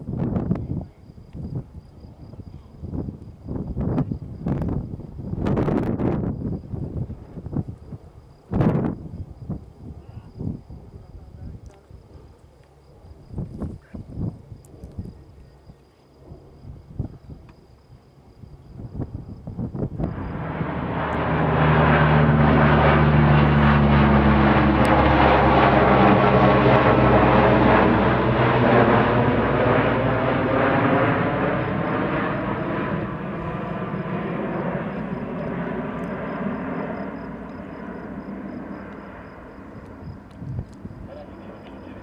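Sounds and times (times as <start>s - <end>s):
propeller aircraft drone overhead: 0.0s - 42.0s.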